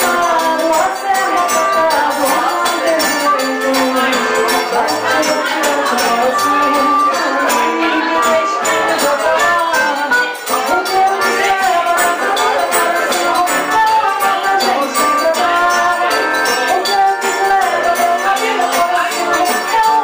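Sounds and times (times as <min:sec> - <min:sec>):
accordion: 0:00.0 - 0:20.0
guitar: 0:00.0 - 0:20.0
shaken hand percussion: 0:00.0 - 0:20.0.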